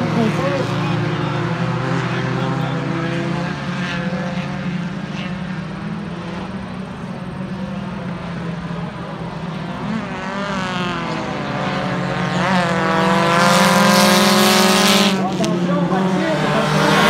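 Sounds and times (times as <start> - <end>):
car revving up: 0.0 - 17.0
race car engines: 0.0 - 17.0.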